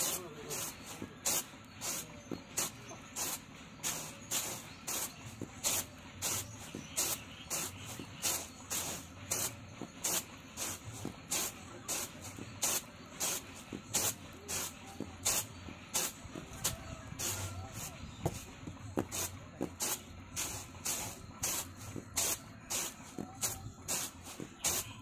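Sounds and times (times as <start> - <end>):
rice swishing on bamboo tray: 0.0 - 25.0.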